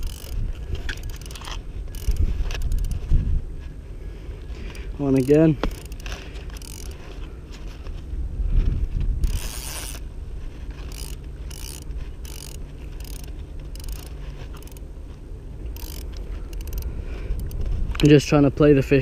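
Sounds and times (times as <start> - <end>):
fishing reel drag rasping: 0.0 - 8.0, 9.2 - 18.2.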